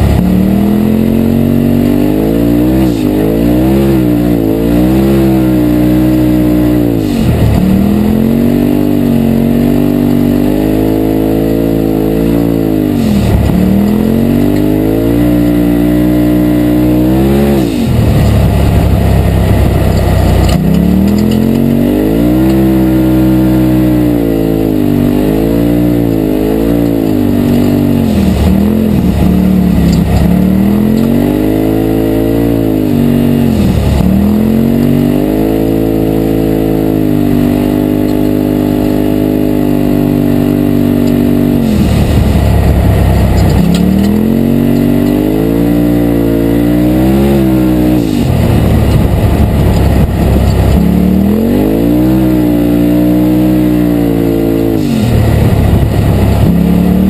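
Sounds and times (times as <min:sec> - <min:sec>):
vehicle engine revving: 0:00.0 - 0:57.0.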